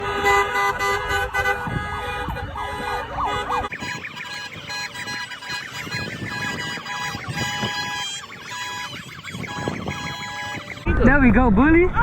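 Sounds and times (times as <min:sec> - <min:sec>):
siren wailing: 0:00.0 - 0:10.9.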